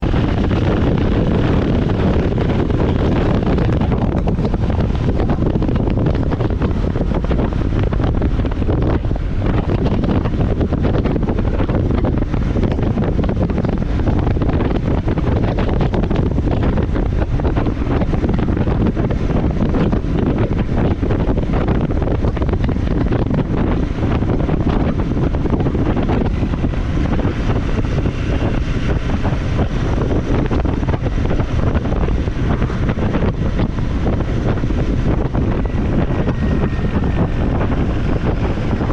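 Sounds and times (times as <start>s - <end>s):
motorcycle running: 0.0s - 38.9s
wind noise on microphone: 0.0s - 38.9s.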